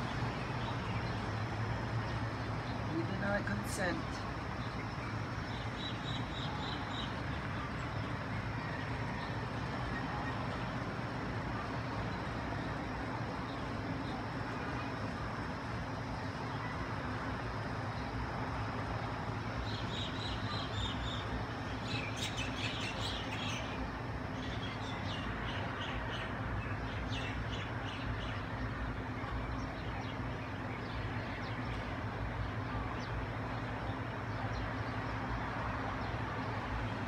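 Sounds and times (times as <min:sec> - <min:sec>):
birds chirping: 0:00.0 - 0:10.8, 0:17.9 - 0:37.0.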